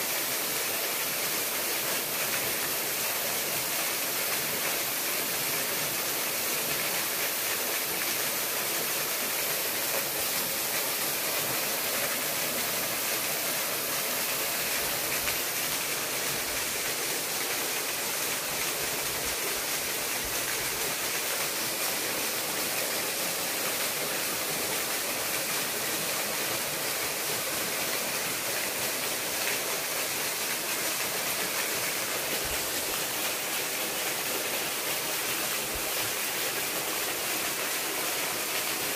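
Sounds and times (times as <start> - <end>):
small waterfall rushing: 0.0 - 38.9.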